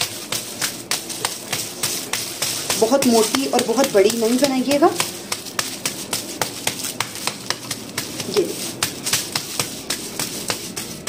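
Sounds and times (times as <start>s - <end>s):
hands patting dough: 0.0s - 11.0s
plastic sheet crinkling: 0.0s - 11.0s.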